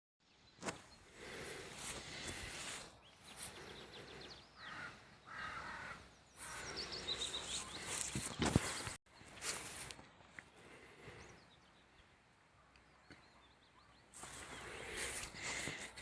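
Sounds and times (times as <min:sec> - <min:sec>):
birds singing and chirping: 0:00.6 - 0:09.7, 0:10.5 - 0:16.0.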